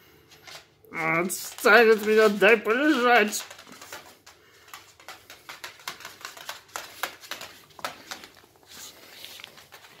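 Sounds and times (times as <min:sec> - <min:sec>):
dog claws clicking on floor: 0:00.3 - 0:10.0.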